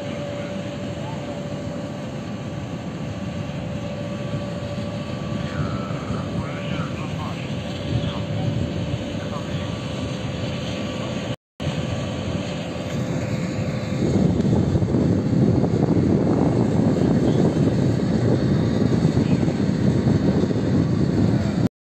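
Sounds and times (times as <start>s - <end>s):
turboprop engines running: 0.0s - 21.7s.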